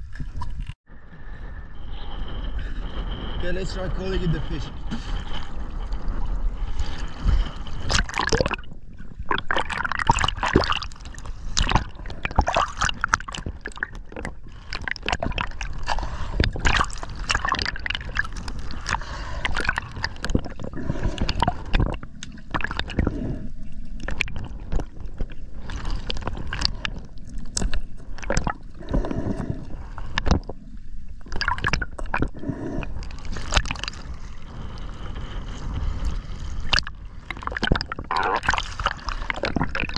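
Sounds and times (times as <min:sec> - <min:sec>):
sea water sloshing and gurgling: 0:00.0 - 0:39.9.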